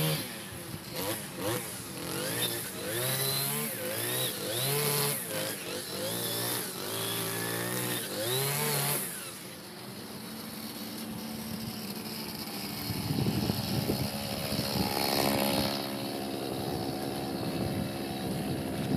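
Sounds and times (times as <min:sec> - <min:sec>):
brush cutter engine revving: 0:00.0 - 0:18.9.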